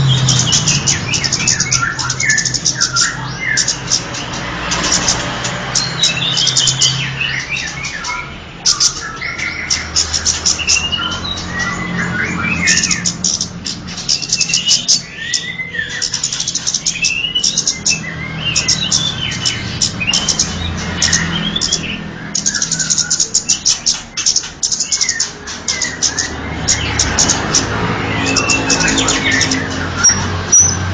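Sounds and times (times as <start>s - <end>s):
bird chirps and warbles: 0.0s - 30.9s.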